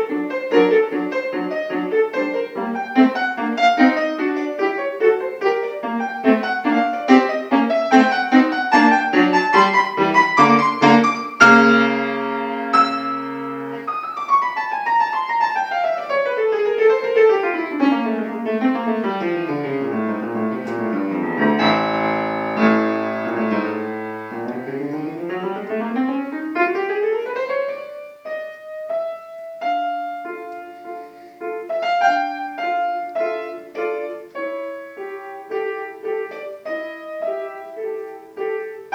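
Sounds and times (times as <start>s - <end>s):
classical piano piece: 0.0s - 38.9s.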